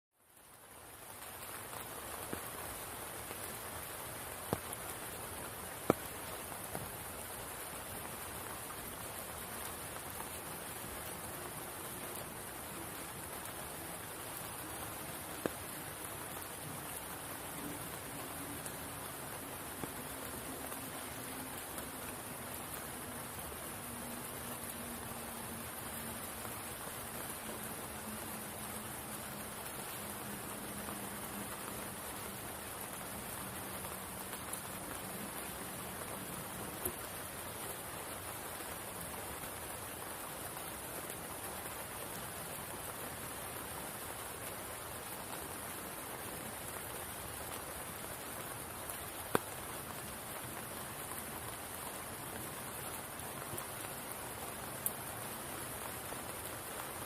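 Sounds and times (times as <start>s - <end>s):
rain hissing on pool and forest: 0.1s - 57.0s.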